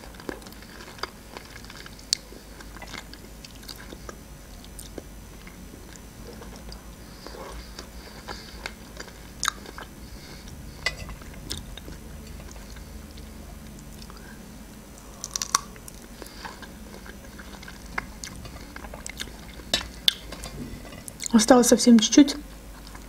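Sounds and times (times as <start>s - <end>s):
chewing strawberries: 0.0s - 21.4s.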